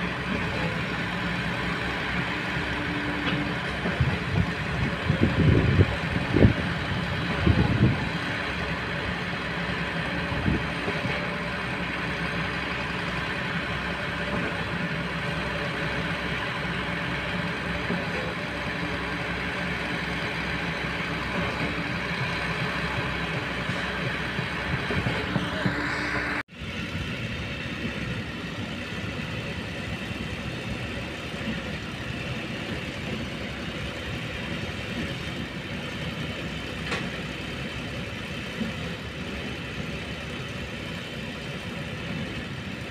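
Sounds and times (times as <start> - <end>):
concrete pump engine drone: 0.0 - 42.9
excavator diesel engine running: 0.0 - 42.9.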